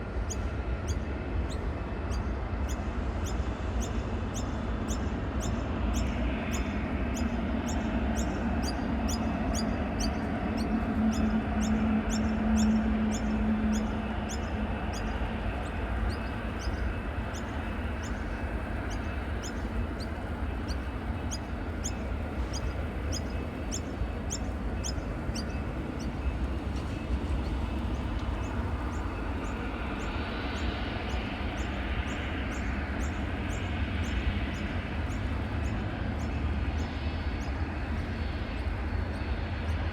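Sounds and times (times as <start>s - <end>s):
distant jet engines rumbling: 0.0s - 39.9s.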